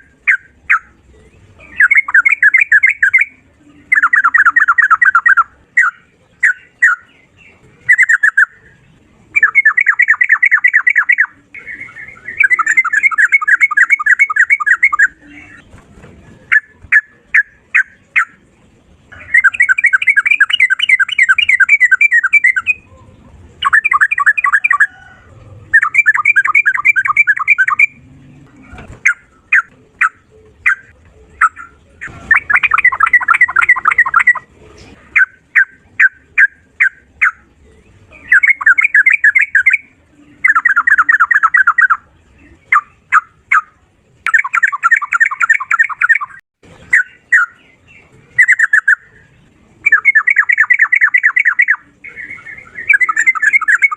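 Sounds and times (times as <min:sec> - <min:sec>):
bird chirps: 0:00.0 - 0:53.9
bird rolling trills: 0:00.0 - 0:53.9.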